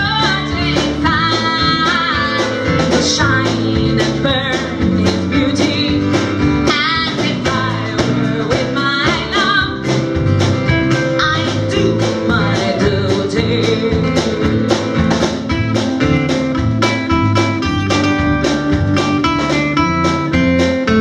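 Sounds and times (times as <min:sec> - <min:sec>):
live folk-rock band playing: 0:00.0 - 0:21.0.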